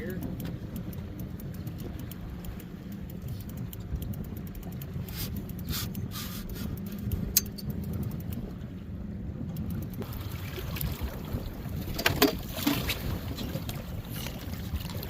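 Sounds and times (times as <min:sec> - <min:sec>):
gear clicks and knocks: 0:00.0 - 0:08.7, 0:09.4 - 0:10.1, 0:11.8 - 0:15.0
boat motor droning: 0:00.0 - 0:15.0
water noise: 0:00.0 - 0:15.0
wind: 0:00.0 - 0:15.0.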